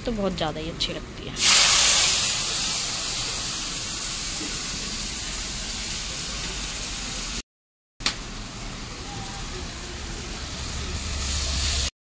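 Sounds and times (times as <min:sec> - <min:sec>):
batter sizzling in hot oil: 0:01.4 - 0:07.4, 0:08.0 - 0:11.9.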